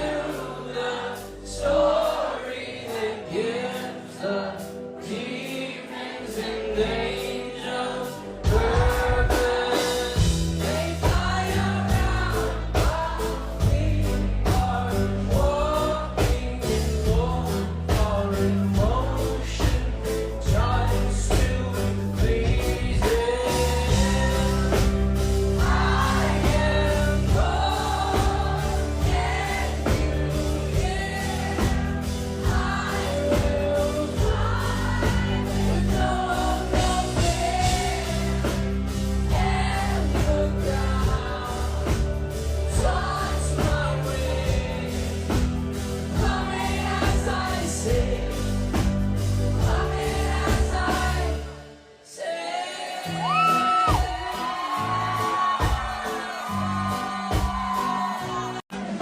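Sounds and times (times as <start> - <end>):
live rock band playing: 0.0 - 51.8, 53.0 - 59.0.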